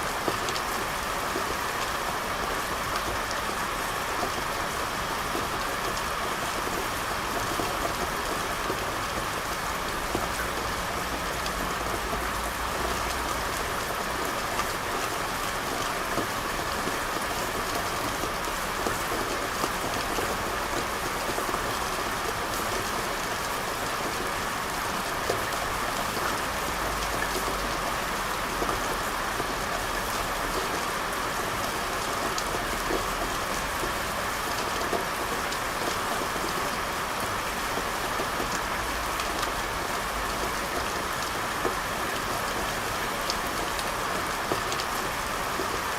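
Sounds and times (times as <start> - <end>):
rain on hard street: 0.0 - 45.9.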